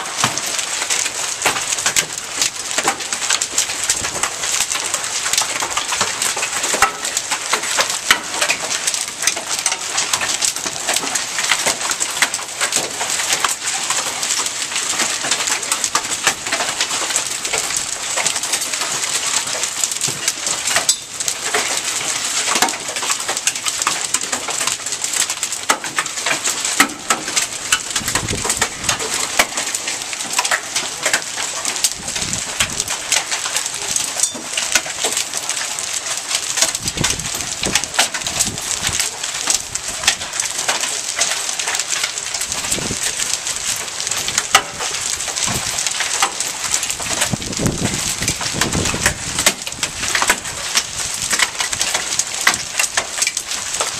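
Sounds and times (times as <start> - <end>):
hail ticking: 0.0 - 53.9
rain hissing: 0.0 - 53.9.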